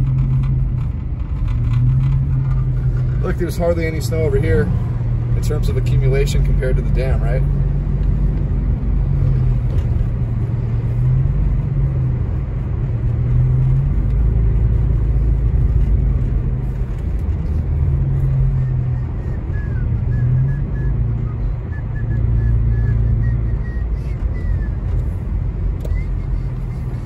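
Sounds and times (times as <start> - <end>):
car engine rumble: 0.0 - 27.0
tyres on snowy road: 0.0 - 27.0.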